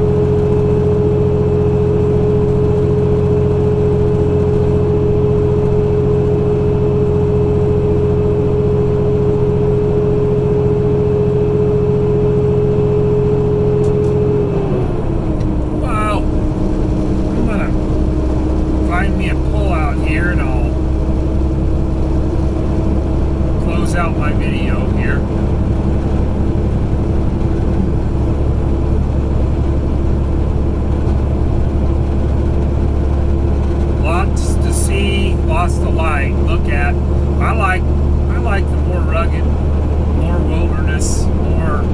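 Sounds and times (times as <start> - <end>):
diesel truck engine droning: 0.0 - 41.9.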